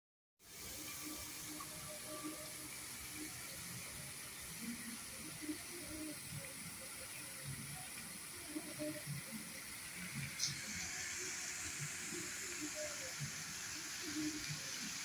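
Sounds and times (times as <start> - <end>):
water fountain spraying: 0.4 - 15.0.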